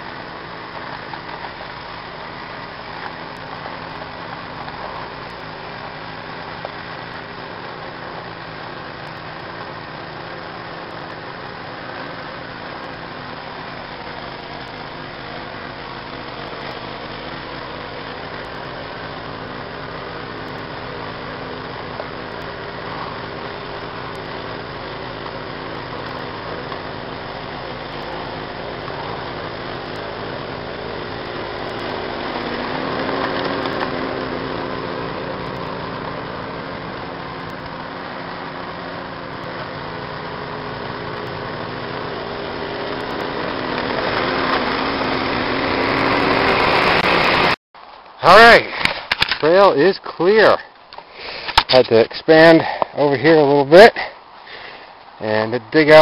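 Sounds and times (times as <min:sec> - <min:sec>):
snowblower engine running: 0:00.0 - 0:47.6.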